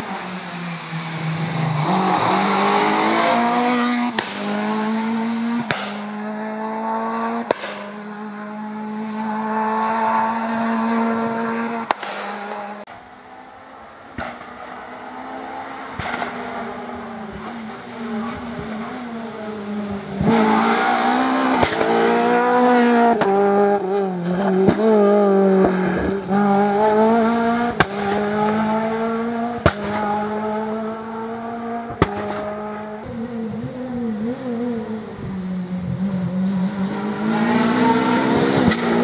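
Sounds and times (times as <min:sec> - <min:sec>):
rally car engine at full throttle: 0:00.0 - 0:39.0.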